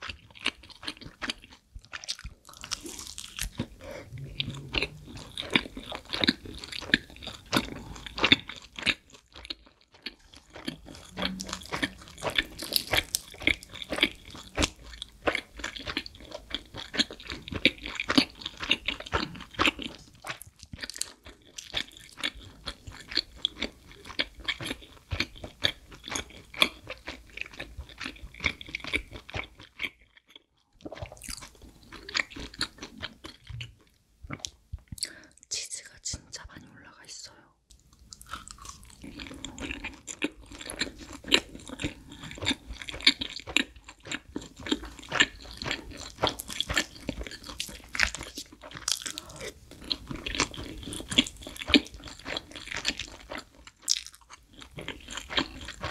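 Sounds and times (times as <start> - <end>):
chewing crunchy pizza: 0.0 - 35.3, 37.7 - 55.9.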